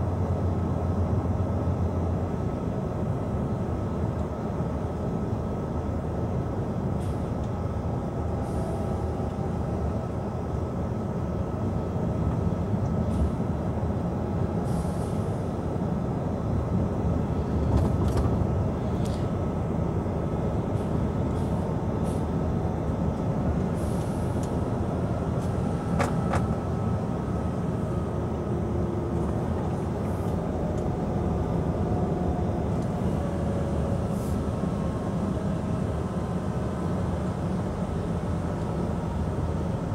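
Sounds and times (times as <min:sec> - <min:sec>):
truck engine and tyre drone: 0:00.0 - 0:39.9.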